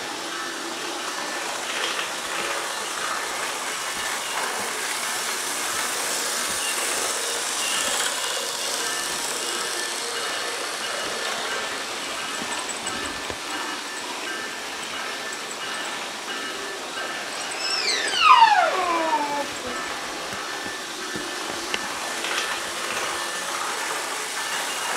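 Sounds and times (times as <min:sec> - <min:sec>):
model train running on track: 0:00.0 - 0:24.9.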